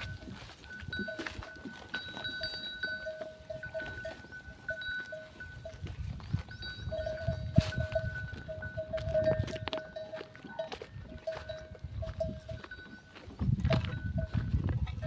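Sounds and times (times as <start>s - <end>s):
livestock bells ringing: 0.0s - 15.0s.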